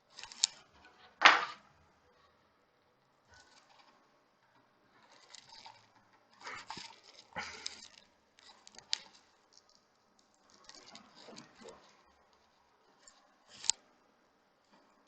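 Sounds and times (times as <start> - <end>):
scratching and rustling: 0.0 - 2.4, 3.2 - 15.0.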